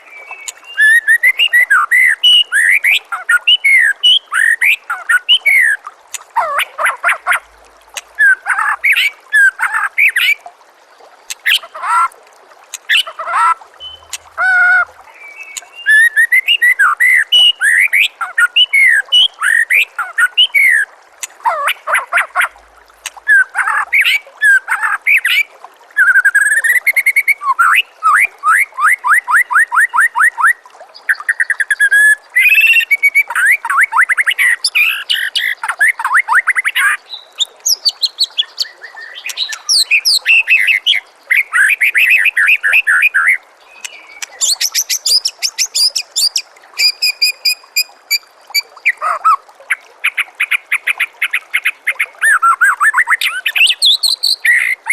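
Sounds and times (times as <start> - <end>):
songbird singing: 0.0 - 7.6, 12.8 - 25.4, 26.0 - 49.4, 50.1 - 54.9.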